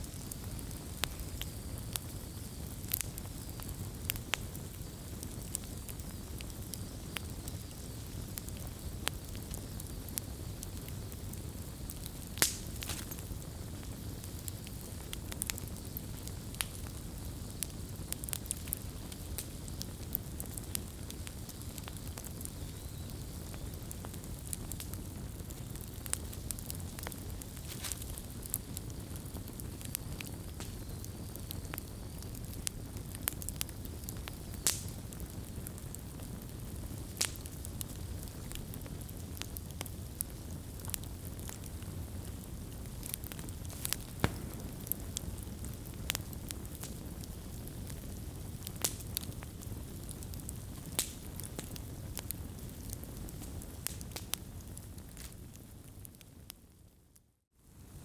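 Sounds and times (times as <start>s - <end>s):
bonfire flames rushing: 0.0s - 56.2s
fire crackles and pops: 0.0s - 58.0s.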